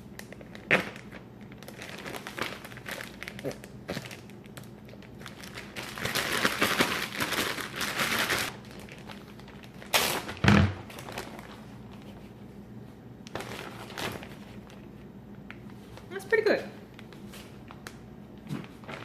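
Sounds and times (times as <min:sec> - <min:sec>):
plastic bag crinkling: 0:00.0 - 0:12.2, 0:13.3 - 0:19.0.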